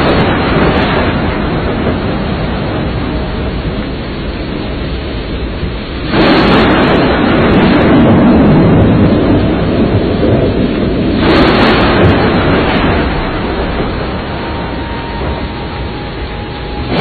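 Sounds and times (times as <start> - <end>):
rush of wind and rain: 0.0 - 17.0.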